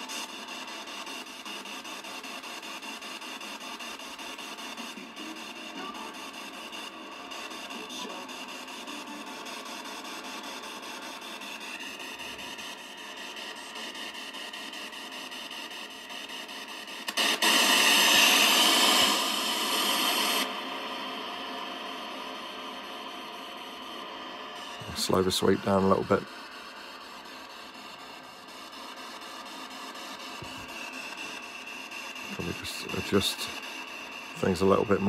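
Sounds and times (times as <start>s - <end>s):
radio static hiss with reverb: 0.0s - 35.0s.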